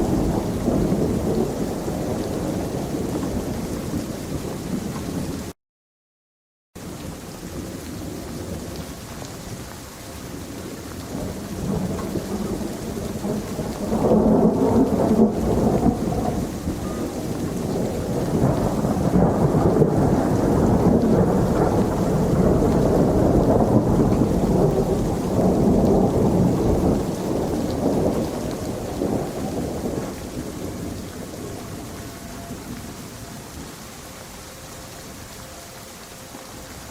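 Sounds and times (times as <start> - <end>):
thunder rumbling: 0.0 - 5.5, 6.9 - 36.9
rain falling: 0.0 - 5.6, 6.8 - 36.9.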